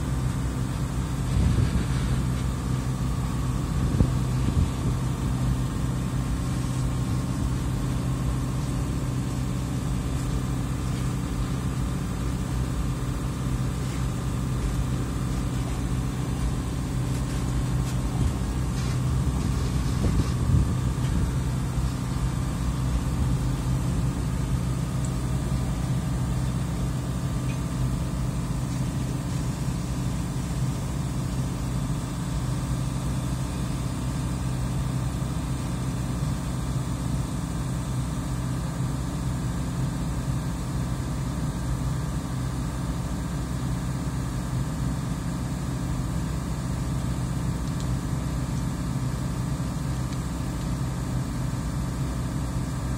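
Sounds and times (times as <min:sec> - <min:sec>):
diesel train engine humming: 0:00.0 - 0:52.9.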